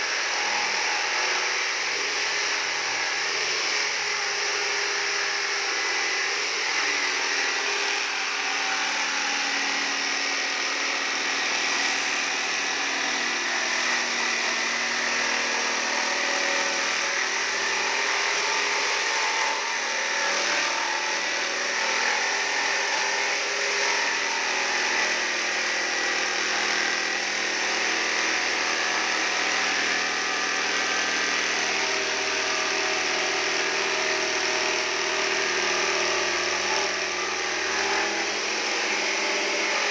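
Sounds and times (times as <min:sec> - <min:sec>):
jigsaw cutting wood: 0:00.0 - 0:39.9.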